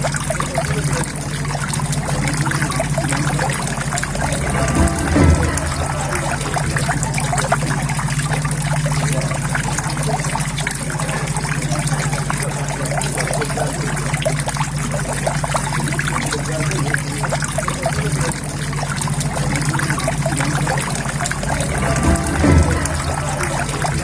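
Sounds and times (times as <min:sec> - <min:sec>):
low hum: 0:00.0 - 0:24.0
water trickling into pond: 0:00.0 - 0:24.0.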